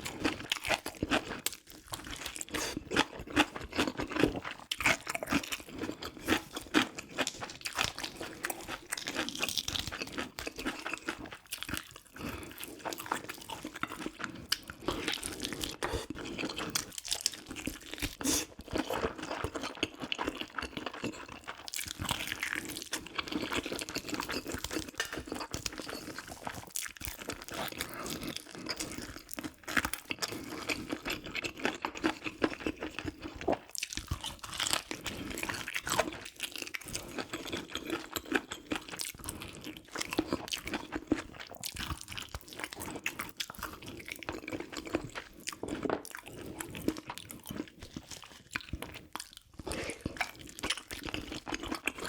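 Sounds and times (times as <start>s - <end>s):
person chewing and biting: 0.0s - 52.0s.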